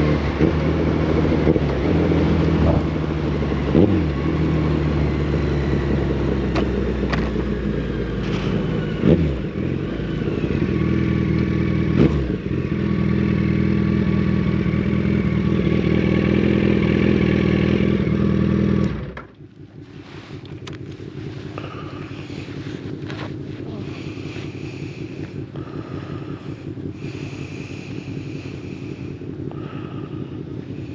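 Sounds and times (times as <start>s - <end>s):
motorcycle engine throttle blips: 0.0s - 30.9s.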